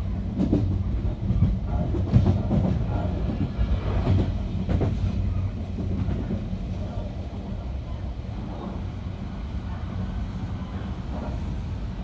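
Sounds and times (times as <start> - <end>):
electric train hum and rumble: 0.0 - 12.0.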